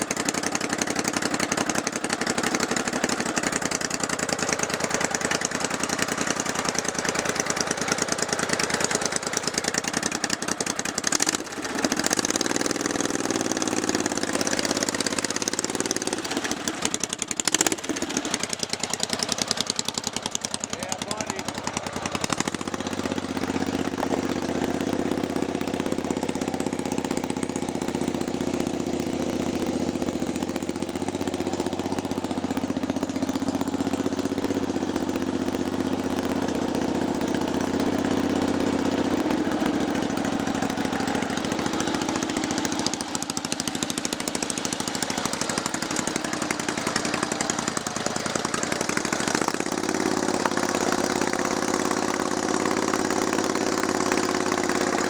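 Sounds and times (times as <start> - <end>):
lawn tractor engine running: 0.0 - 55.0.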